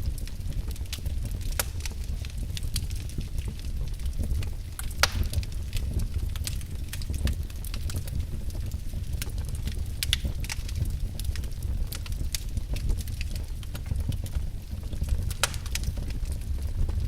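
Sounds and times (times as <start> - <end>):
wood fire burning: 0.0 - 17.0
logs crackling and snapping: 0.1 - 17.0.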